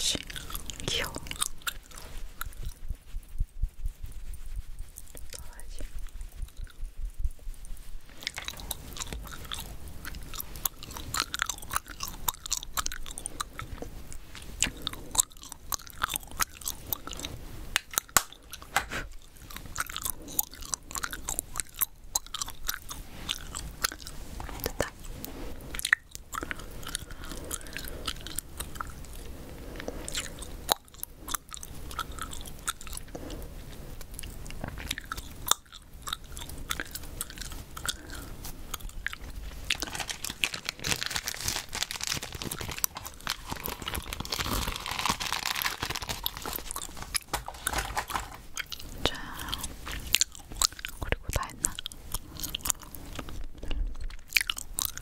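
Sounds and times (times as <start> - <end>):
gum chewing with wet clicks: 0.0 - 55.0.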